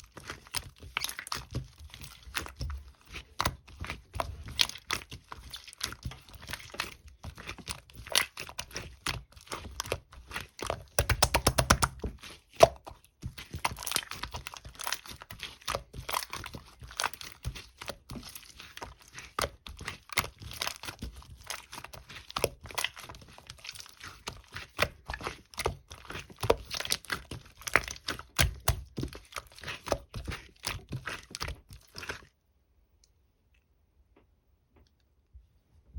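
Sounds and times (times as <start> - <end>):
crinkling and crackling handling: 0.0 - 32.4.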